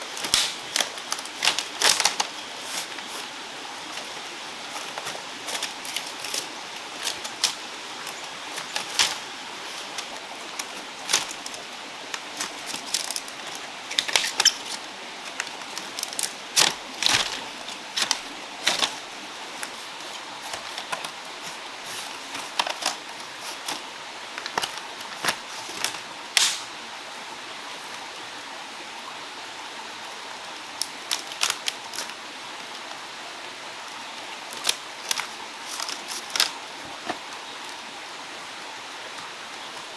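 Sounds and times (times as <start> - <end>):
bamboo strips clicking and cracking: 0.0 - 3.3, 3.9 - 26.8, 30.7 - 32.9, 33.9 - 37.8
stream rushing: 0.0 - 39.9.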